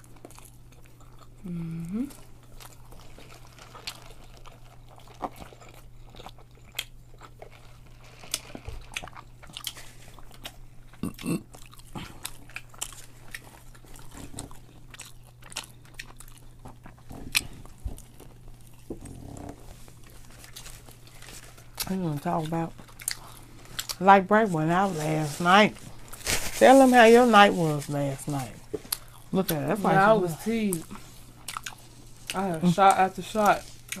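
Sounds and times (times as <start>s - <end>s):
chewing and lip-smacking: 0.0s - 24.0s, 28.7s - 30.0s, 30.6s - 34.0s
steady low hum: 0.0s - 34.0s.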